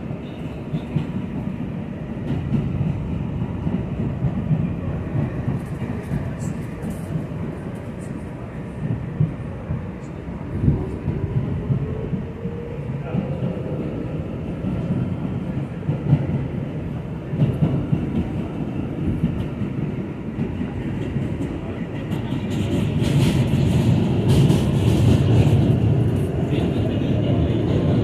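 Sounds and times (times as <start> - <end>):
subway train rumbling on track: 0.0 - 28.0.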